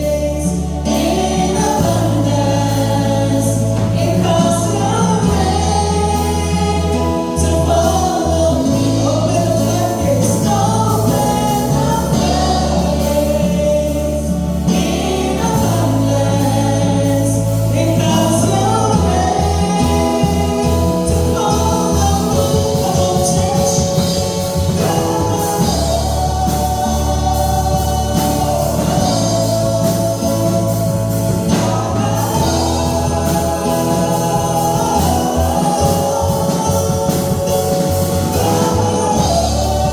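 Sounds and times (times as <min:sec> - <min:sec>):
gospel choir singing: 0:00.0 - 0:39.9
sustained bass notes: 0:00.0 - 0:39.9.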